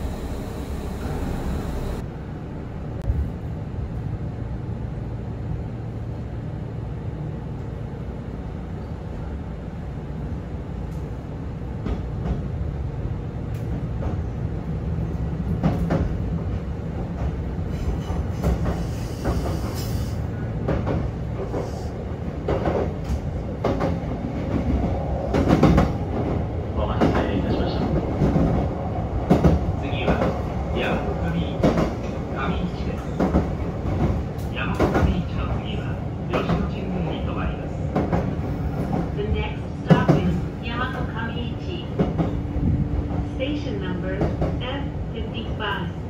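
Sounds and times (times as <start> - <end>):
train running rumble: 0.0 - 46.0.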